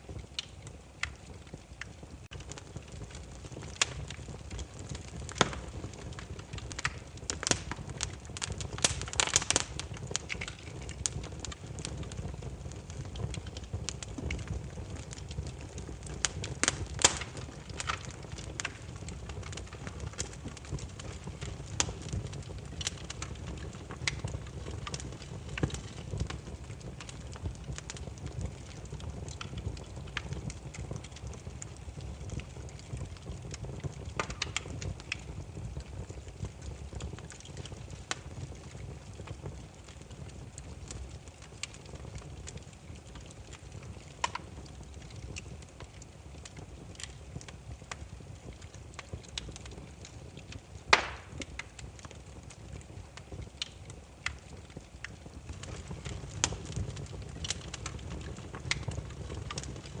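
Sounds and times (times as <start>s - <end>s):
firewood crackling and popping: 0.0s - 60.0s
low rumble of flame: 0.0s - 60.0s.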